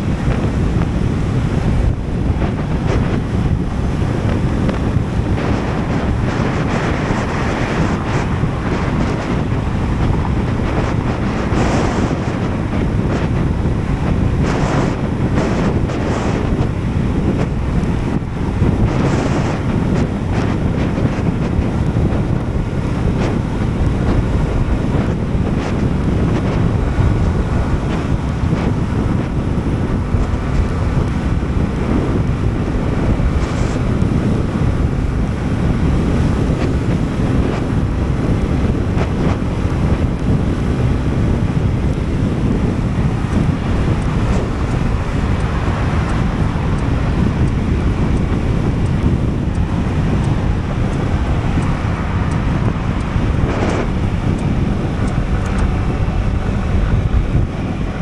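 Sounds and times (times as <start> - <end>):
scooter engine running: 0.0 - 58.0
wind rushing over microphone: 0.0 - 58.0.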